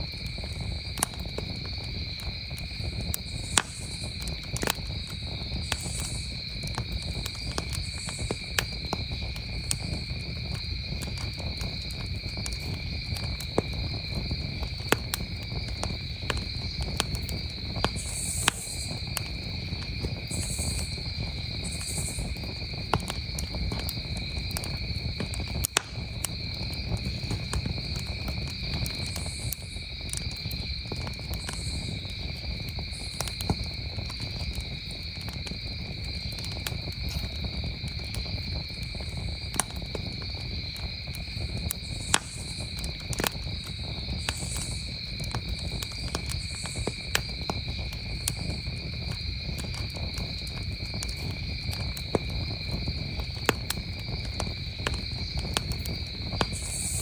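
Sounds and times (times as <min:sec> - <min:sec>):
campfire crackling: 0:00.0 - 0:57.0
crickets chirring: 0:00.0 - 0:57.0.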